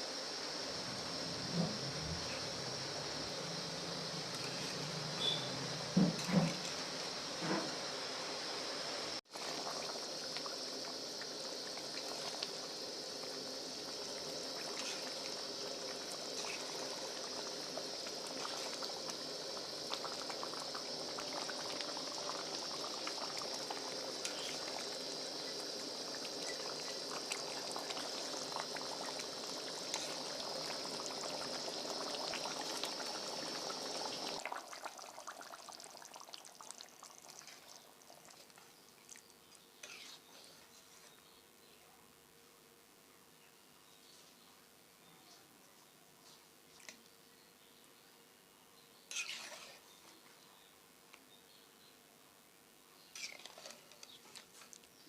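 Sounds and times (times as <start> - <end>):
curry sizzling and bubbling: 0.0 - 41.4, 49.0 - 50.4, 53.0 - 55.0.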